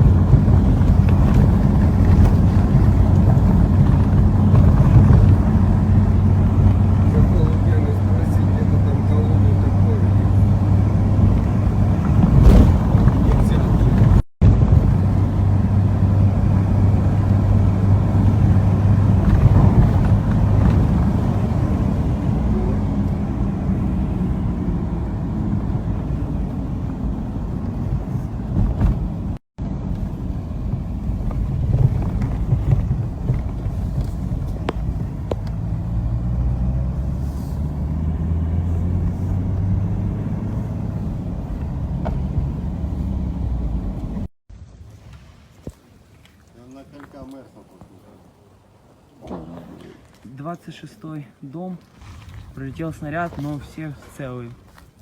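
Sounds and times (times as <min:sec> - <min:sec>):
car engine and road noise: 0:00.0 - 0:46.1.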